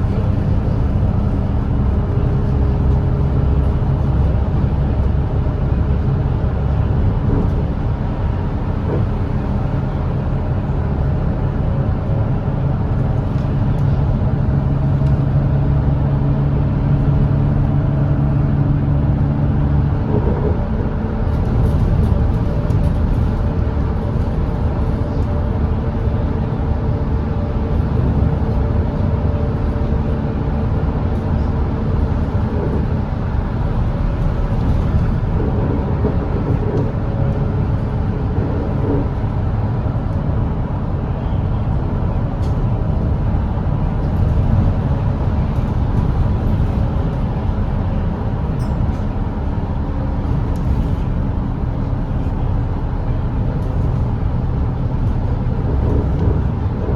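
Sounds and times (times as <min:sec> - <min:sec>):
bus engine drone: 0:00.0 - 0:56.9
road noise: 0:00.0 - 0:56.9.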